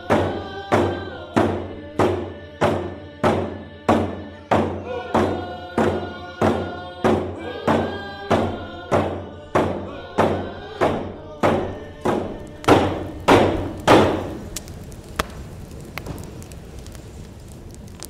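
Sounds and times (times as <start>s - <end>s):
person singing: 0.0s - 14.6s.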